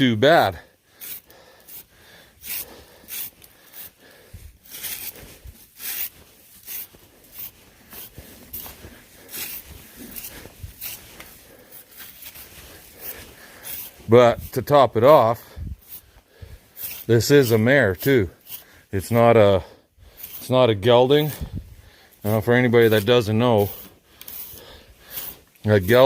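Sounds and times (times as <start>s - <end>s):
brush sweeping snow off coat: 0.0s - 26.0s.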